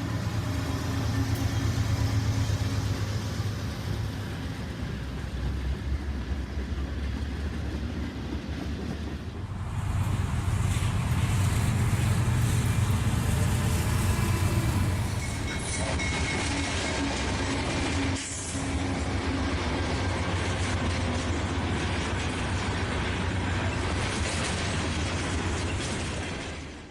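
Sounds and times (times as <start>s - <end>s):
train rumbling on rails: 0.0s - 26.9s.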